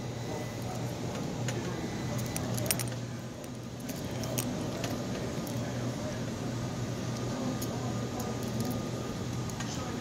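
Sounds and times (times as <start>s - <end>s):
dryers humming: 0.0s - 10.0s.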